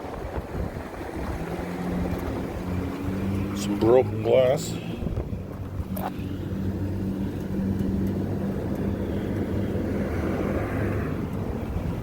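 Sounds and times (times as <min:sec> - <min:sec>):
low engine hum: 0:00.0 - 0:12.0
road traffic rushing past: 0:00.7 - 0:12.0.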